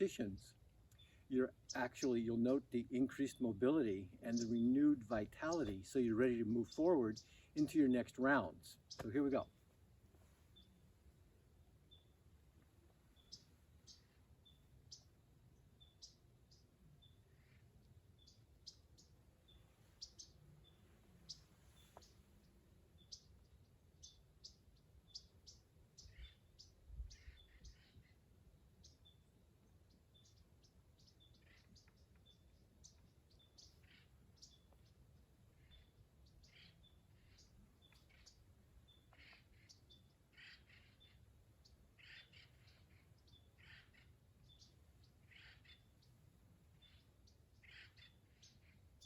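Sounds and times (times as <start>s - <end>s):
faint birds chirping: 0.0s - 49.0s.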